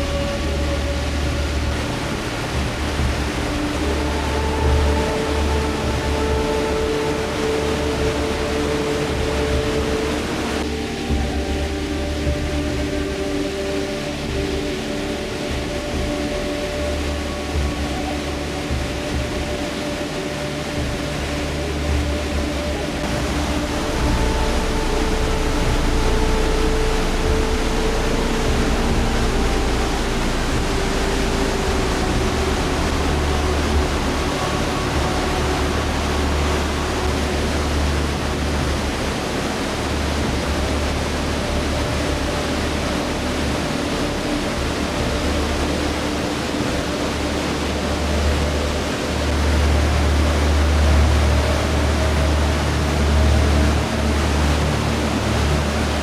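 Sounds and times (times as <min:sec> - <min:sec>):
deep rumble: 0:00.0 - 0:56.0
waterfall rushing: 0:00.0 - 0:56.0.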